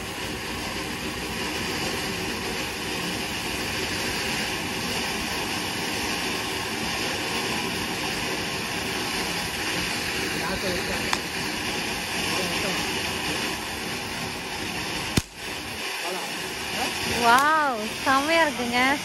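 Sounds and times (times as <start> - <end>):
ground firework hissing: 0.0 - 19.0.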